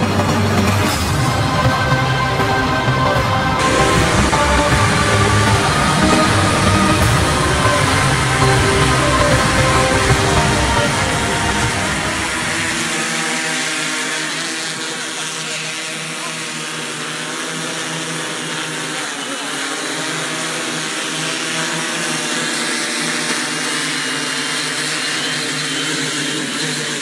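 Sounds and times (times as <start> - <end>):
drone propellers humming: 0.0 - 27.0.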